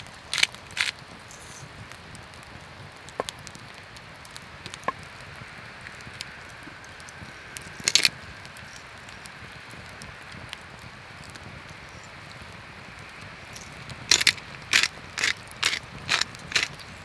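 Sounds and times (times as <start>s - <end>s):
fire hissing: 0.0s - 17.0s
wood fire crackling: 0.0s - 17.0s.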